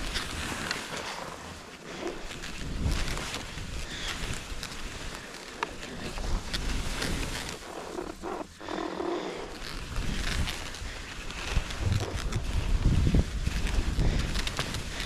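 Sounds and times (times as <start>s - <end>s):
skis scraping over snow: 0.0s - 15.0s
wind rumbling on microphone: 0.0s - 15.0s.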